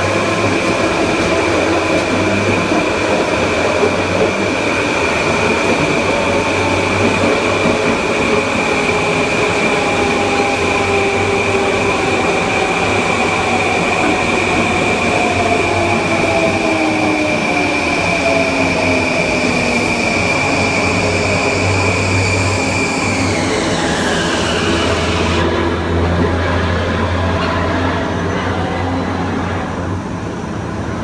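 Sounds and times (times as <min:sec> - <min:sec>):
train rolling noise: 0:00.0 - 0:31.0.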